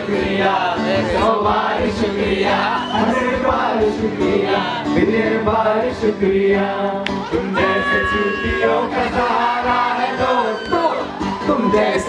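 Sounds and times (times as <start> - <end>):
person singing: 0.0 - 10.8
crowd singing along: 0.0 - 12.0.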